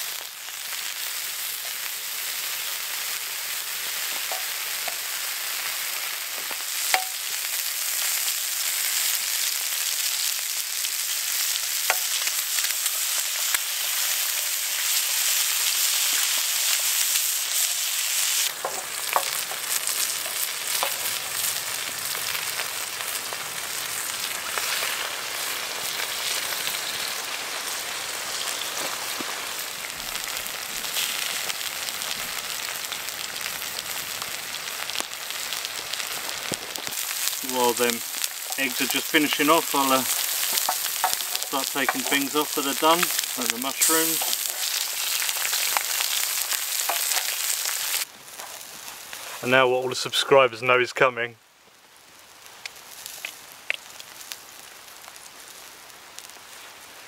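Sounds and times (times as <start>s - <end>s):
food sizzling on griddle: 0.0s - 49.8s, 51.6s - 57.0s.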